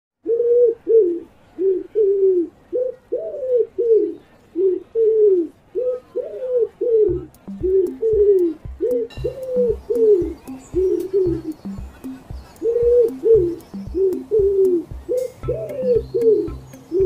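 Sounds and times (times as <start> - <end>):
pigeon cooing: 0.2 - 17.0.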